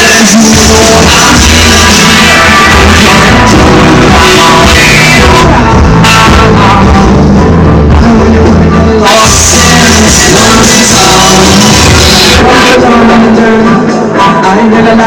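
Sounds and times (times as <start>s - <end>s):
distorted live rock band: 0.0s - 15.0s.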